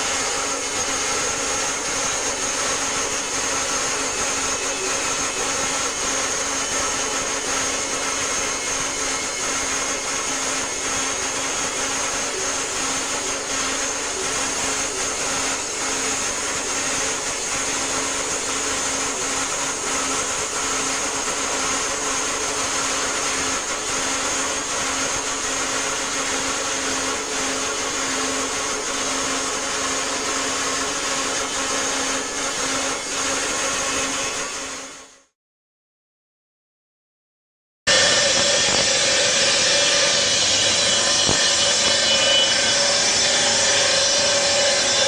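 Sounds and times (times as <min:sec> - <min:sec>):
bandsaw mill sawing a log: 0:00.0 - 0:35.1, 0:37.9 - 0:45.0.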